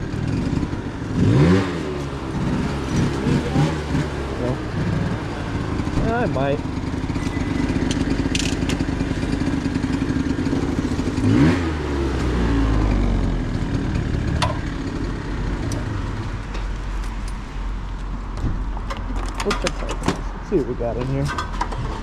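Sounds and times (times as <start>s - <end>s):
vehicle engine running: 0.0s - 21.2s.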